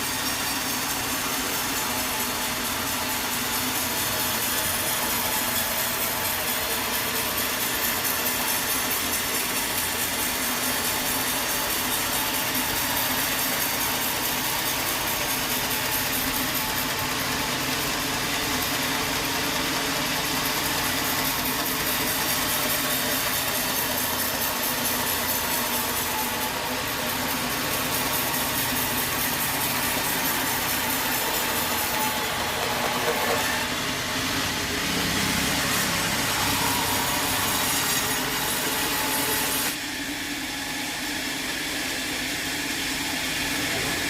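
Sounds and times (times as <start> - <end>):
sawmill machinery running: 0.0 - 44.0.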